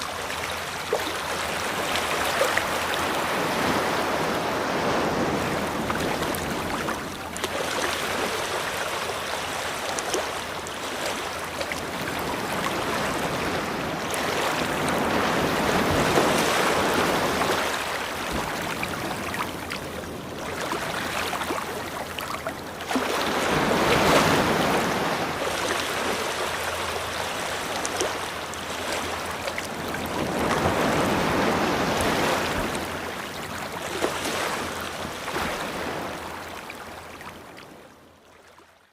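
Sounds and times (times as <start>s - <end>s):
ocean surf washing onto shore: 0.0s - 37.2s.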